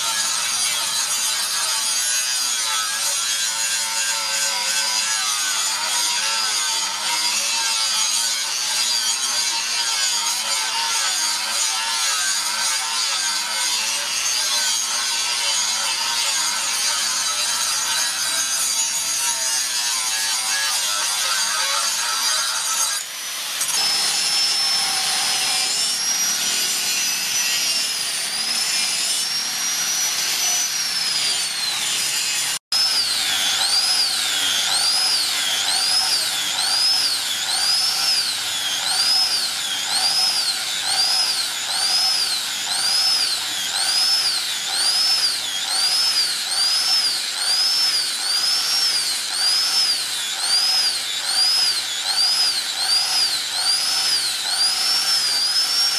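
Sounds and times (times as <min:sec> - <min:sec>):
angle grinder whining on steel: 0:00.0 - 0:55.9.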